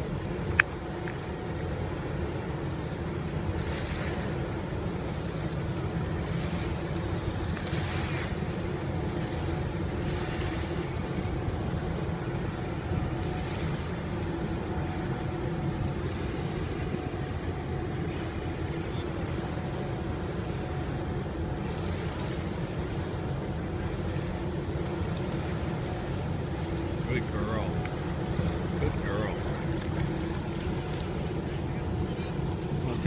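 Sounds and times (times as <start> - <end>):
ship machinery humming: 0.0 - 33.0
water lapping: 0.0 - 33.0.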